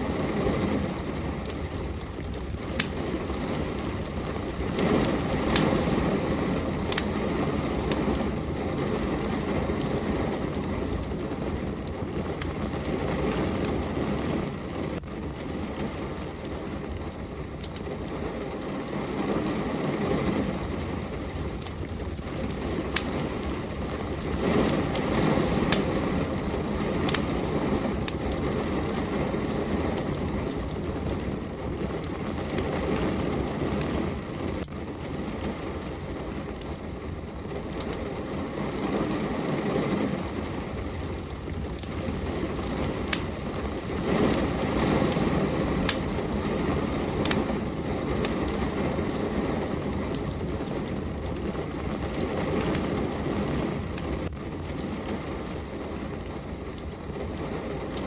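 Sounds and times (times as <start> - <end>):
steady rain: 0.0 - 58.0
wood fire crackling: 0.0 - 58.0.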